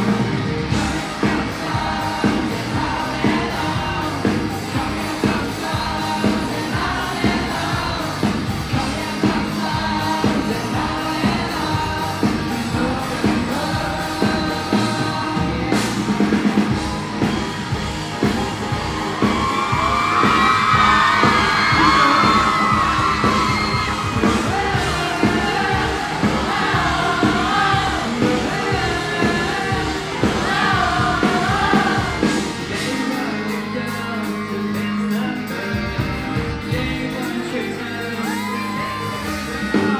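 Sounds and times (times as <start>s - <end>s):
person singing lead vocal: 0.0s - 17.3s, 19.0s - 39.9s
pop-rock band playing live: 0.0s - 39.9s.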